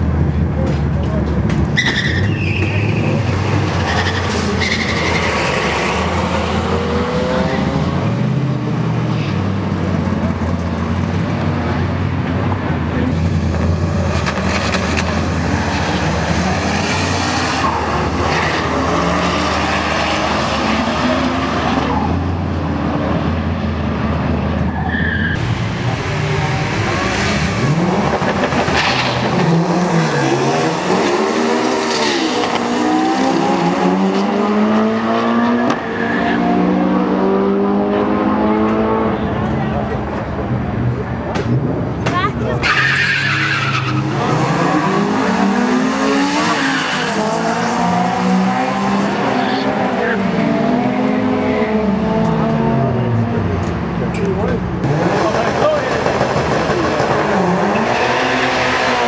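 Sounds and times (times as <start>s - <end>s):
engines revving and shifting gears: 0.0s - 59.0s
race car engines at full throttle: 0.0s - 59.0s.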